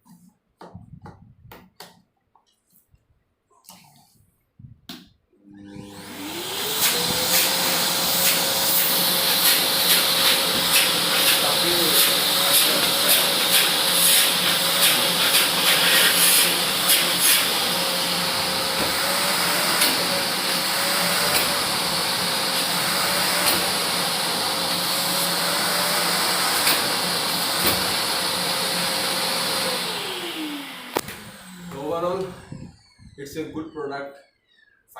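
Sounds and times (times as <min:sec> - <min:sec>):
vacuum cleaner running: 0:05.4 - 0:34.7.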